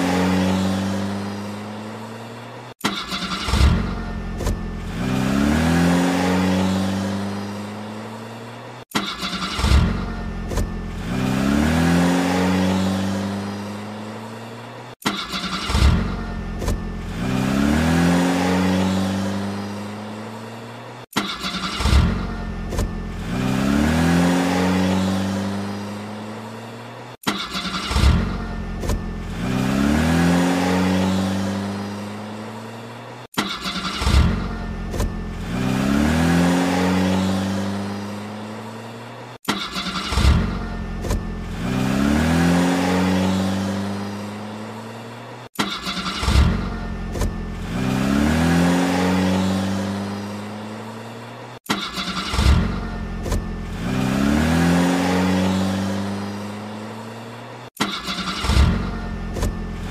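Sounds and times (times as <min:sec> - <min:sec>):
car engine revving: 0:00.0 - 0:26.6, 0:27.2 - 0:45.0, 0:45.6 - 0:59.9.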